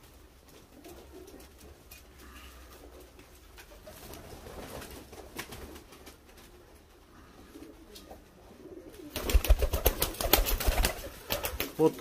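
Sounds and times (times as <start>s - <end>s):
pigeons cooing softly: 0.0s - 12.0s.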